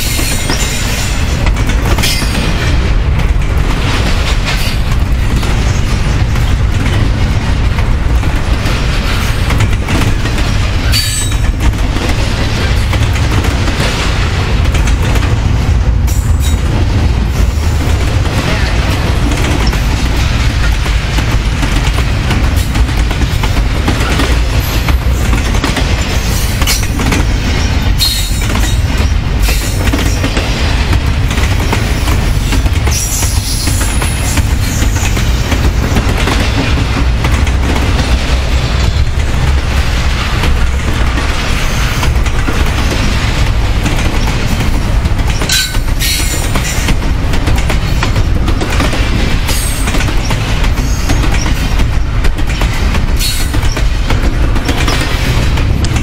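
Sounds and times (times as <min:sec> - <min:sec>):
freight train wheels rumbling: 0:00.0 - 0:56.0
wheels clicking over rail joints: 0:00.0 - 0:56.0.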